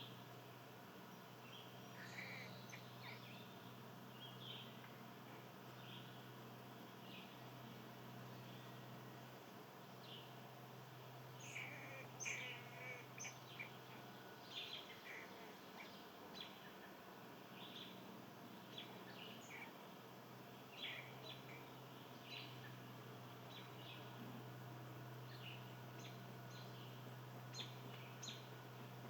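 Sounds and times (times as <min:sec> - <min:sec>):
small birds chirping: 0:00.0 - 0:29.0
steady low hum: 0:00.0 - 0:29.0.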